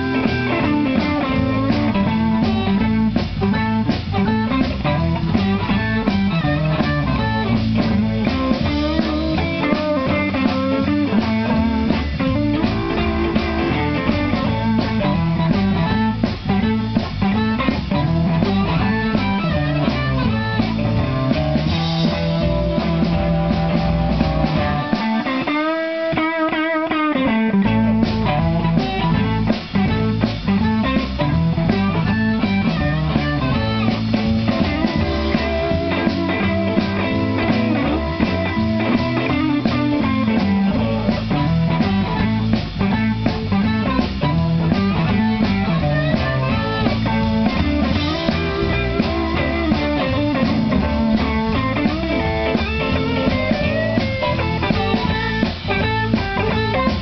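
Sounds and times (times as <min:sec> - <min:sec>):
harmonica: 0:00.0 - 0:26.0, 0:27.3 - 0:57.0
blues band playing: 0:00.0 - 0:57.0.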